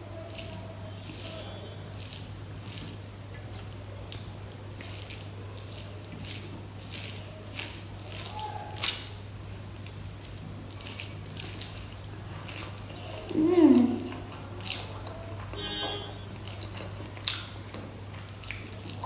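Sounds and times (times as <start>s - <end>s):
wet squishing of rice by hand: 0.0s - 19.0s.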